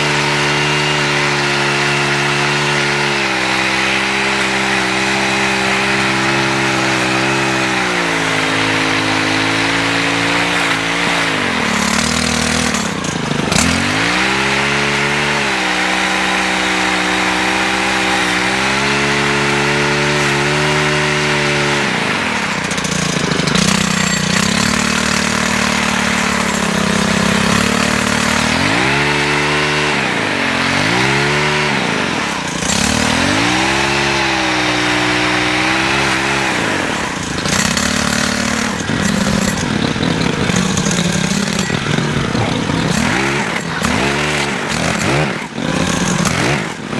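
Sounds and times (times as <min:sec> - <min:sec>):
pole saw engine cutting branches: 0:00.0 - 0:46.9.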